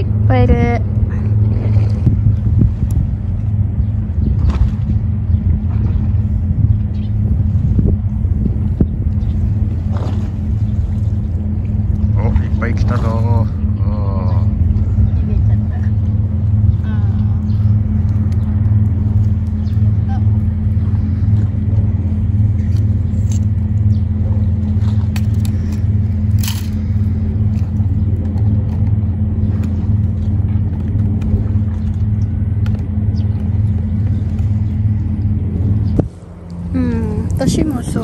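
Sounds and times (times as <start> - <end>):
low machinery drone: 0.0 - 38.0.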